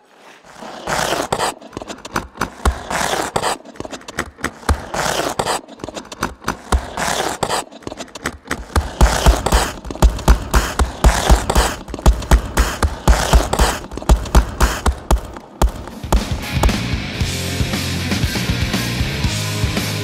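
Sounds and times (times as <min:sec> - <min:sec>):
ice skate blades scraping ice: 0:00.0 - 0:16.8
skate blades clicking on ice: 0:00.0 - 0:17.0.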